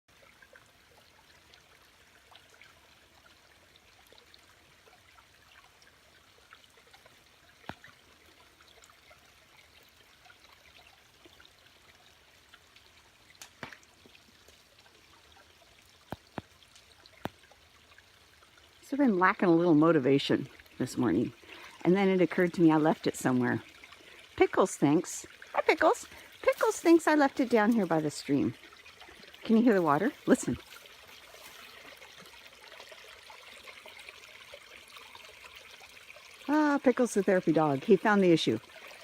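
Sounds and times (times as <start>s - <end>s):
faint stream trickling: 0.1s - 39.0s.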